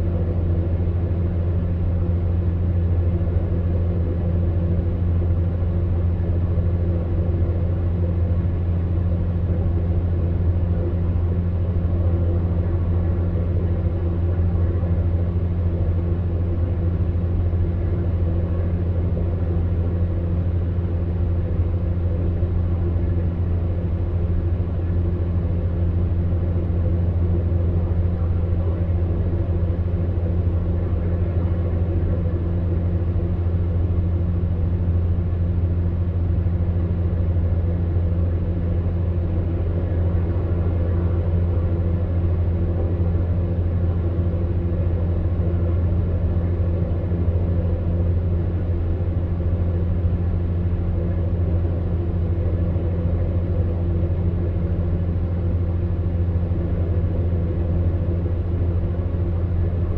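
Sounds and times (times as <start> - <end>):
electric fan heater humming: 0.0 - 59.9.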